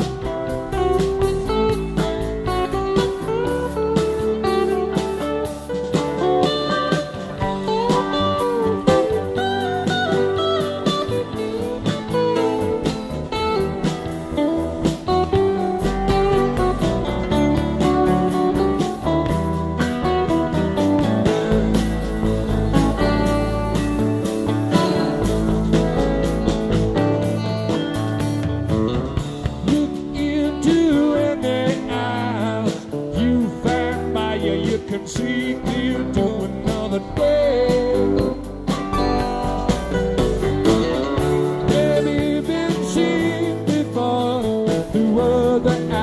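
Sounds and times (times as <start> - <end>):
bass guitar and drums: 0.0 - 46.0
gliding guitar lead: 0.0 - 46.0.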